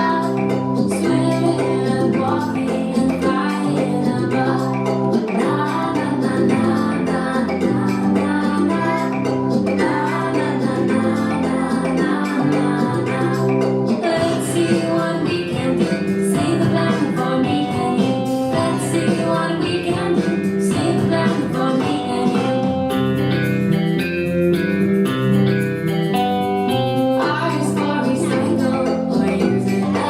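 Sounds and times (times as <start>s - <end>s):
person singing: 0.0s - 23.0s, 27.2s - 30.0s
guitar: 0.0s - 30.0s.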